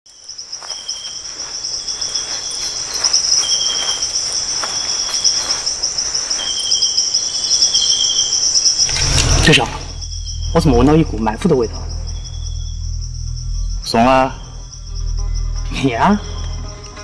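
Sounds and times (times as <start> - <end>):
insects high pulsing trill: 0.1 - 17.0
insects lower trill: 0.1 - 17.0.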